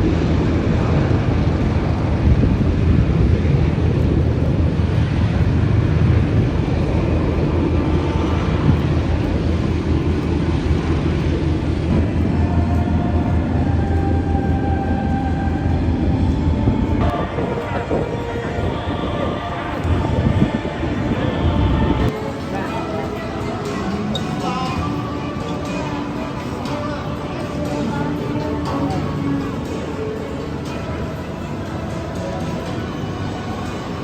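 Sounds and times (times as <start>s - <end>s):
faint whine: 0.0s - 34.0s
helicopters flying overhead: 0.0s - 34.0s.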